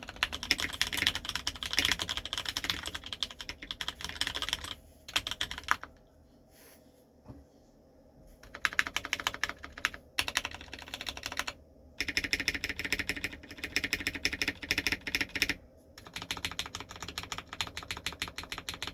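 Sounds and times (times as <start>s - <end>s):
mechanical keyboard typing: 0.0s - 6.0s, 8.4s - 18.9s.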